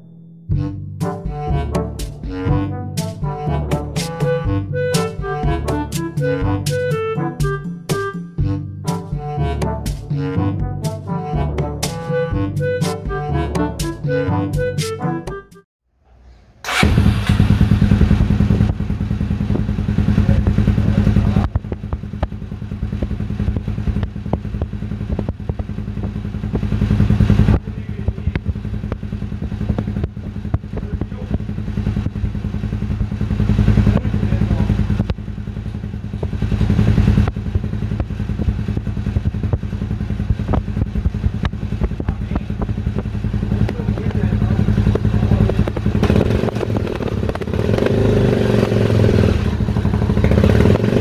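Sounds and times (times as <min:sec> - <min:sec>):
motorcycle engine revving: 0:00.0 - 0:07.5, 0:16.0 - 0:51.0.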